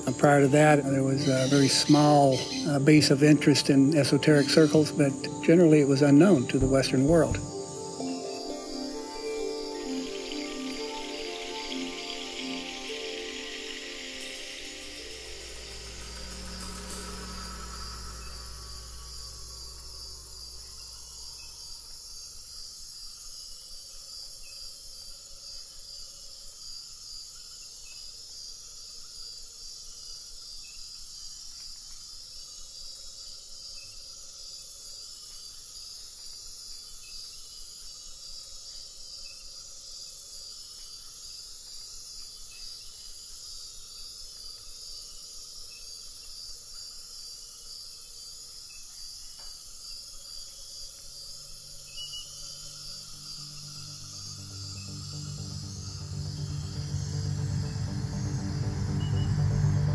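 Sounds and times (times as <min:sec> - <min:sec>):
insects buzzing and trilling: 0:00.0 - 0:59.9.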